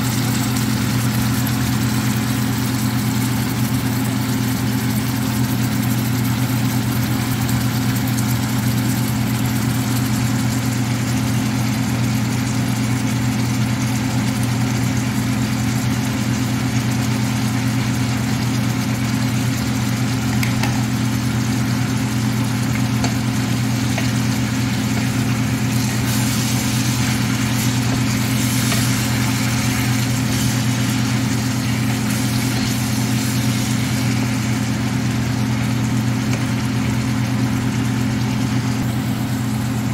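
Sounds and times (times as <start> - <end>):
livers simmering in frying pan: 0.0 - 39.9
low electric hum: 0.0 - 39.9.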